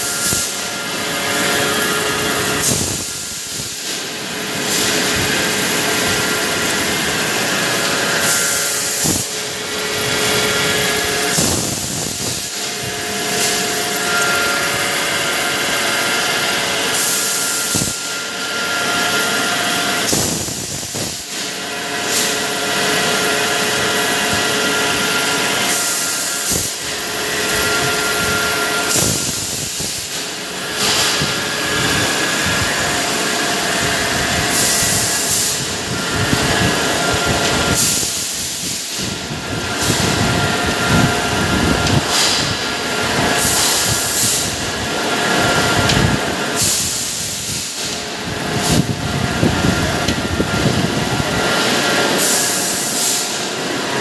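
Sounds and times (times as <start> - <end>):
harsh machine hiss: 0.0 - 54.0
tube mill machinery din: 0.0 - 54.0.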